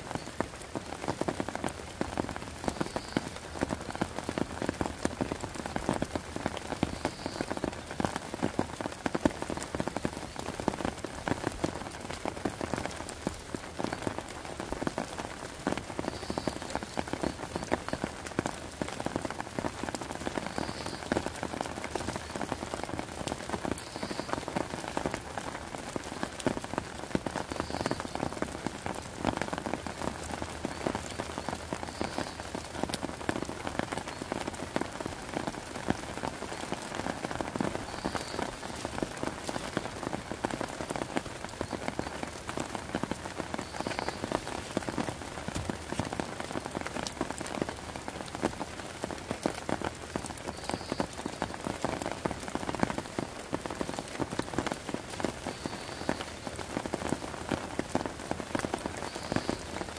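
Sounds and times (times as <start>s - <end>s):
heavy rain on deck and tarps: 0.0s - 59.9s.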